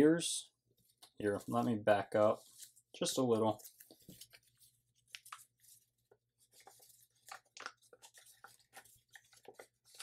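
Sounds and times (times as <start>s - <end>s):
paper rustling and crinkling: 0.8s - 10.0s.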